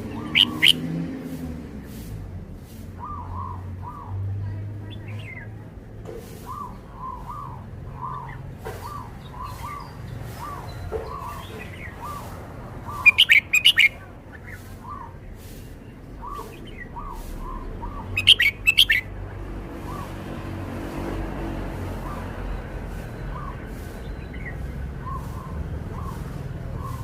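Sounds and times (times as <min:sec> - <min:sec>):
soft low bird call: 0:00.0 - 0:00.9, 0:02.9 - 0:05.7, 0:06.3 - 0:19.2, 0:21.8 - 0:27.0
bird song of bright notes: 0:00.0 - 0:27.0.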